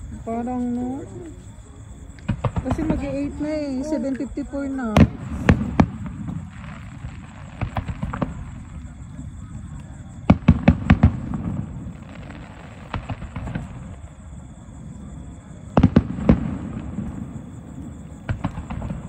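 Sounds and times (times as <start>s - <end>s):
fireworks bursting with sharp bangs: 2.2s - 19.0s.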